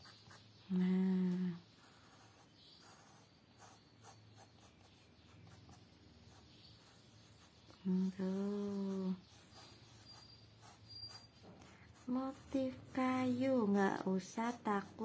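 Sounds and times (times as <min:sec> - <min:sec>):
crayon scratching on paper: 0:00.0 - 0:00.5, 0:01.7 - 0:15.0.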